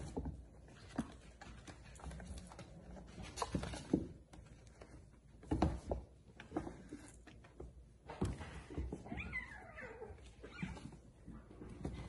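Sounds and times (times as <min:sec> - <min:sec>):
kittens' paws scrabbling on floor: 0:00.0 - 0:12.0.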